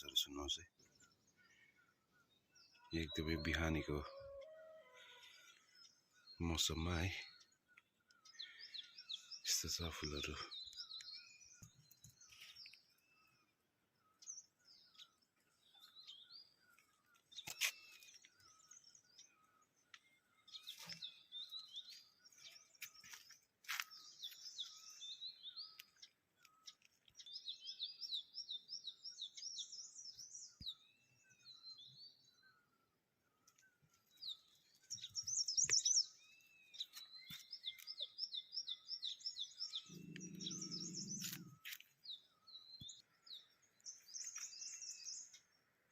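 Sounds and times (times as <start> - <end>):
birds singing: 0.0 - 45.9.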